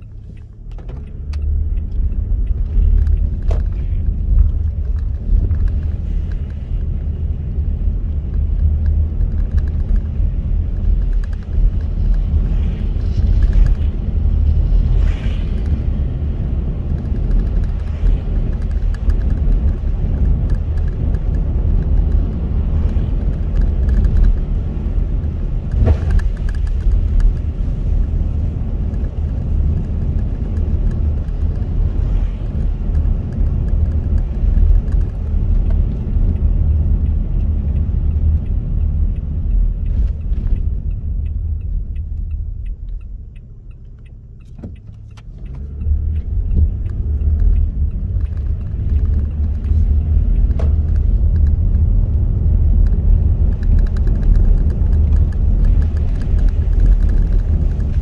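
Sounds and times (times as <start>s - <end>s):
car road noise on wet road: 0.0s - 58.0s
faint regular ticking: 0.0s - 58.0s.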